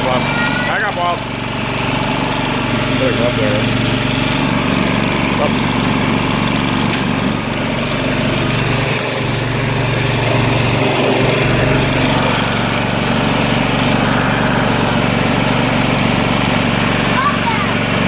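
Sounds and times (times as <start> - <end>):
garden tractor engine running: 0.0 - 18.0.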